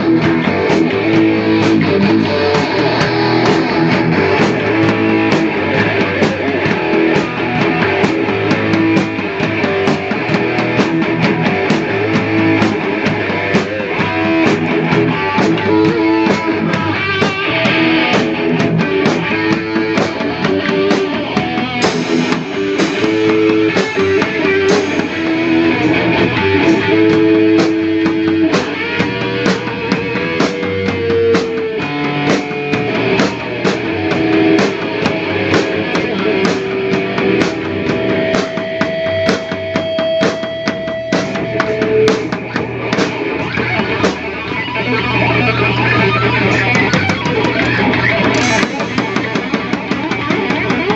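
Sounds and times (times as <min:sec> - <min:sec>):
bass guitar: 0:00.0 - 0:50.9
drum kit: 0:00.0 - 0:50.9
electric guitar: 0:00.0 - 0:50.9.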